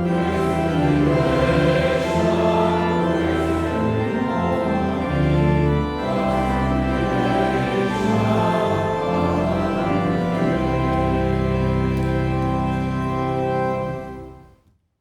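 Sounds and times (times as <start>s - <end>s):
church organ playing hymn: 0.0s - 14.6s.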